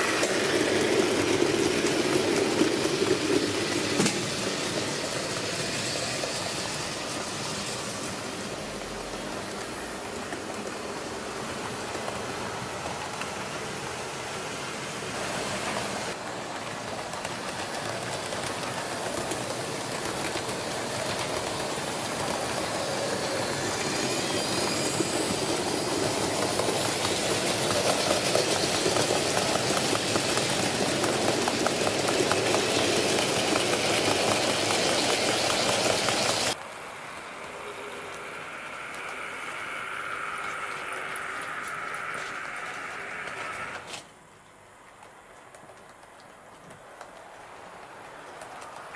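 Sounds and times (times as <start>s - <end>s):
model train running on track: 0.0s - 44.1s, 44.9s - 48.9s.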